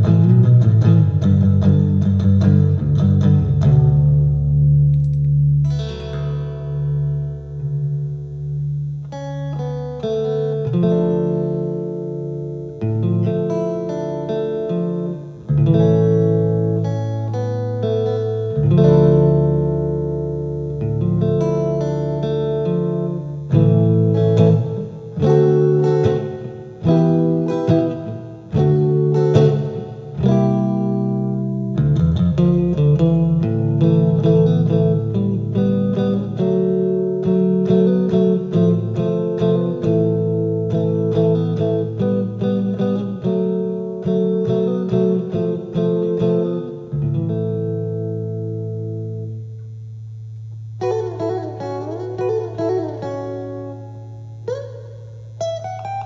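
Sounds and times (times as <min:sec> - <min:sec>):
electric guitar through amplifier: 0:00.0 - 0:56.0.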